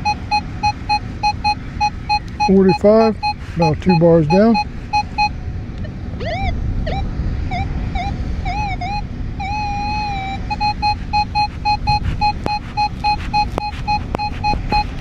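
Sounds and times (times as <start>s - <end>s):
metal detector gliding tones: 0.0s - 5.3s, 6.2s - 15.0s
short repeating beep: 0.0s - 5.3s, 8.0s - 15.0s.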